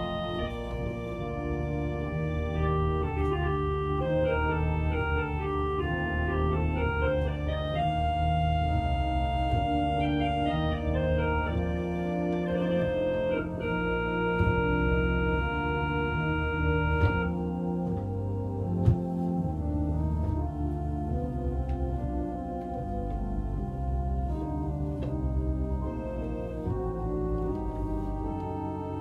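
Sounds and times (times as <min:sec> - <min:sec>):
organ music: 0:00.0 - 0:29.0.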